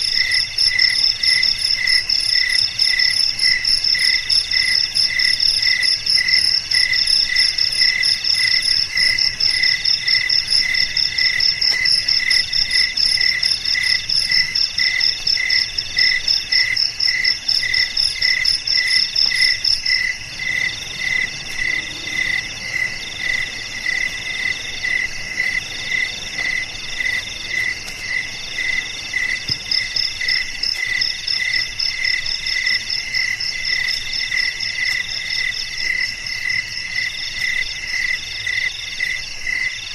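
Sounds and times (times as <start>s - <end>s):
cricket trill: 0.0s - 39.9s
fast high-pitched cricket chirp: 0.0s - 39.9s
low cricket chirp: 0.0s - 39.9s.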